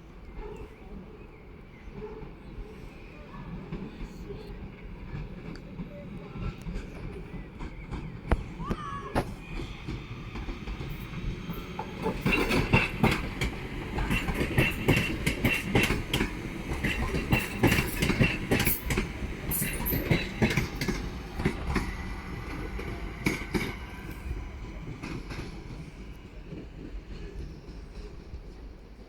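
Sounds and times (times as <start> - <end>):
low rumble of train: 0.0 - 29.0
train wheels clacking over rails: 3.4 - 29.0.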